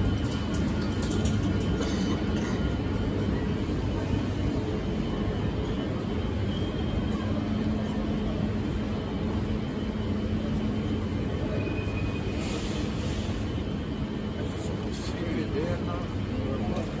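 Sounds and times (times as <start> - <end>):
railway station concourse ambience: 0.0 - 17.0.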